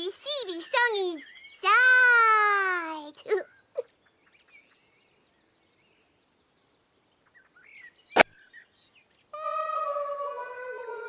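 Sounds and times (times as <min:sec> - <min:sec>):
faint birdsong chirping: 0:00.0 - 0:11.0.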